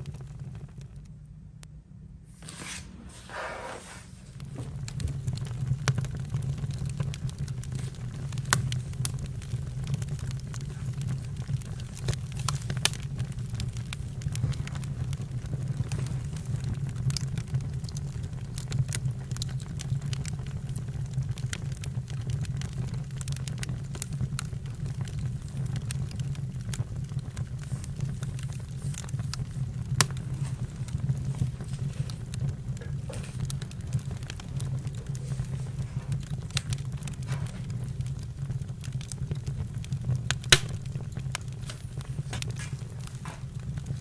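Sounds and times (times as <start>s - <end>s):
campfire crackling: 0.0s - 1.7s, 2.3s - 44.0s.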